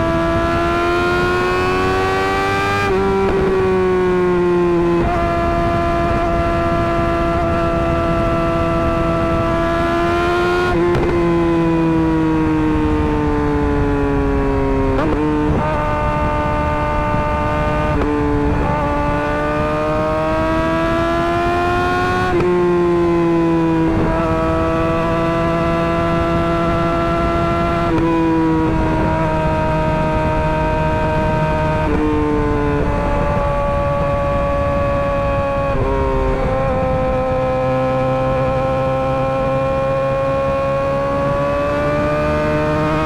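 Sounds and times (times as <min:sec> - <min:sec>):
motorcycle engine running high: 0:00.0 - 0:43.0.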